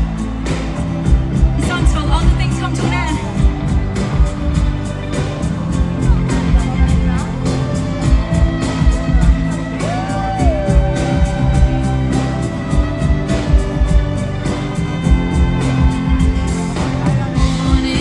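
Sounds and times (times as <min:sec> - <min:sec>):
live pop band music: 0:00.0 - 0:18.0
steady drum beat: 0:00.0 - 0:18.0.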